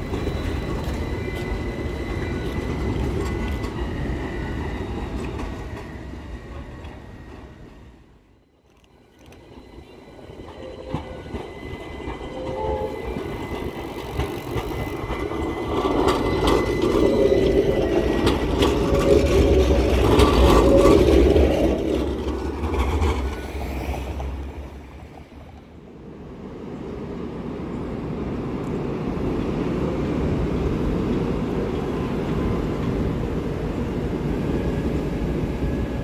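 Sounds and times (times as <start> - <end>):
tram passing: 0.0 - 36.0.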